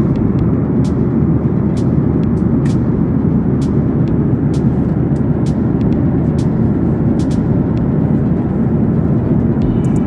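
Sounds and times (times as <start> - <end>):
airliner cabin roar: 0.0 - 10.0.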